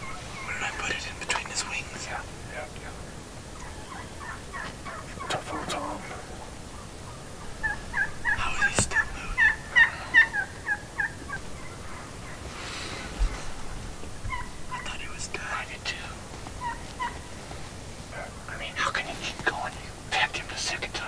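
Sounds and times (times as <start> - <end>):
wild turkey yelping: 0.0 - 19.5.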